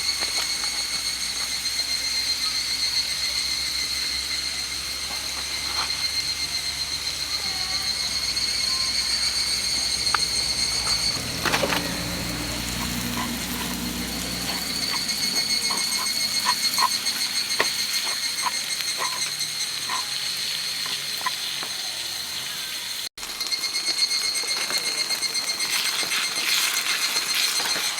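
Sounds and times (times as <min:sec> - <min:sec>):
high-pitched drone: 0:00.0 - 0:25.6
wood campfire crackling: 0:00.0 - 0:27.9.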